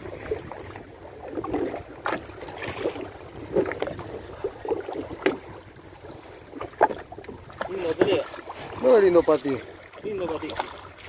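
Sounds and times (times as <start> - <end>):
water splashing and lapping: 0.0 - 11.0.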